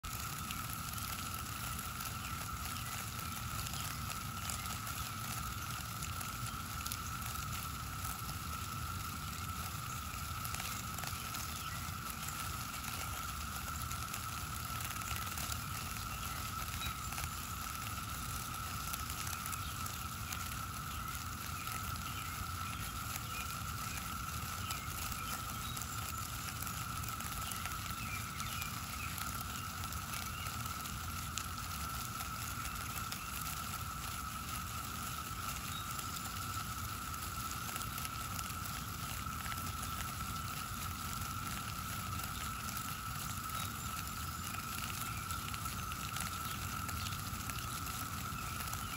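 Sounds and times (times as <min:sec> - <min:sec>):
cicadas droning: 0:00.0 - 0:48.9
crackling rustle of insects: 0:00.0 - 0:48.9.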